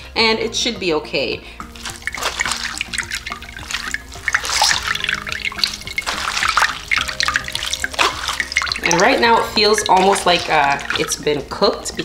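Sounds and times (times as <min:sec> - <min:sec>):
liquid stream splashing into bowl: 0:01.7 - 0:11.6.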